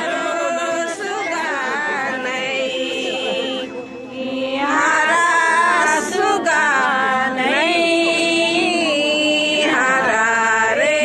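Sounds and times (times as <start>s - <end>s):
group singing unaccompanied: 0.0s - 11.0s.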